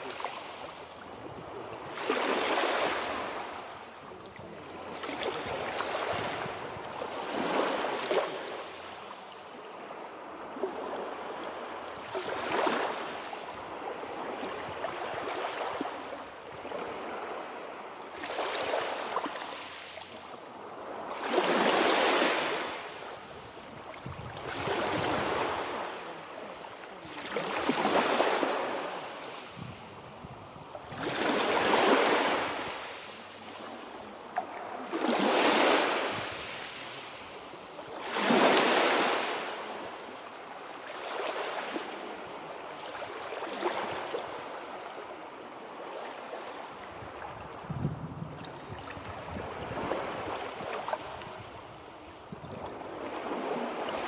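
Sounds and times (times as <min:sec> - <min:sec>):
sea waves breaking: 0:00.0 - 0:47.7, 0:48.3 - 0:54.0.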